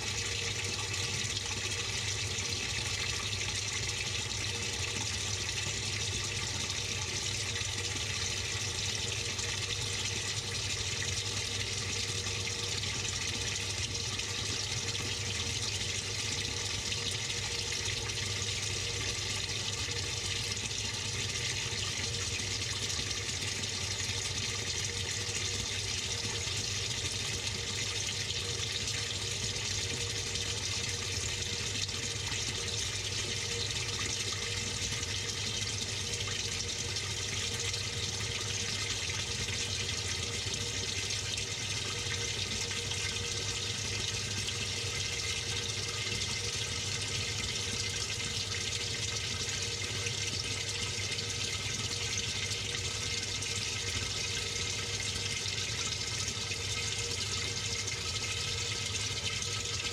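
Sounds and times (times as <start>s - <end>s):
faint steady hum: 0.0s - 59.9s
water pouring into washing machine: 0.0s - 59.9s.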